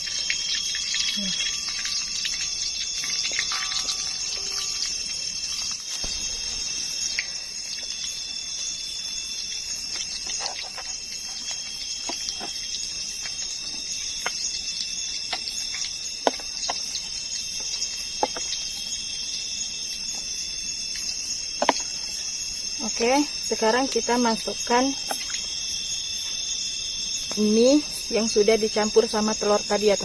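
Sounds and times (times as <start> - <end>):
cooking pops and crackles: 0.0 - 28.0
night insects trilling: 0.0 - 30.0.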